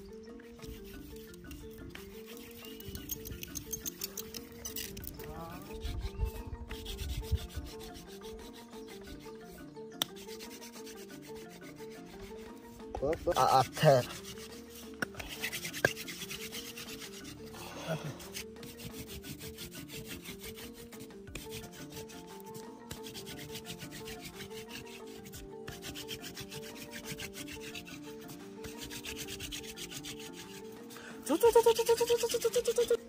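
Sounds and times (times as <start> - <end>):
quiet background music: 0.0 - 33.0
wooden spindle scratching fireboard: 0.6 - 17.4, 18.1 - 31.0.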